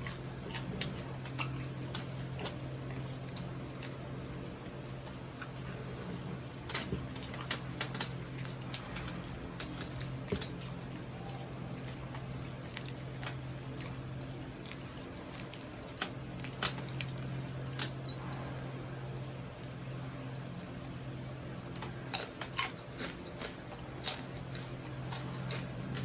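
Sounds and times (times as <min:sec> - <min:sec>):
wet chewing mouth sounds: 0:00.0 - 0:04.0, 0:05.0 - 0:26.0
crunchy clicks of chewing: 0:00.0 - 0:26.0
low hum: 0:00.0 - 0:26.0.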